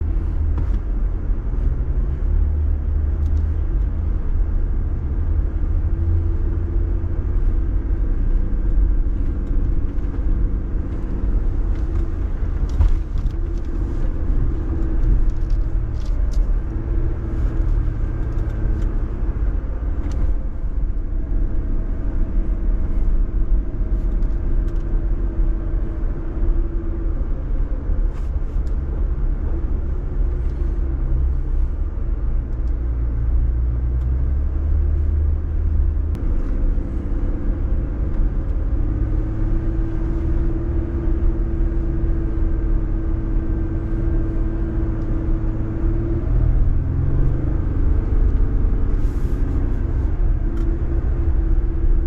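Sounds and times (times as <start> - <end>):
vehicle engine rumble: 0.0 - 52.0.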